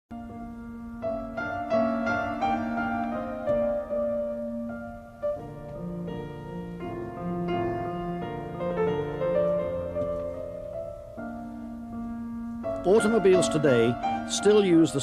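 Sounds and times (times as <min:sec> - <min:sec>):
slow piano chords: 0:00.1 - 0:15.0.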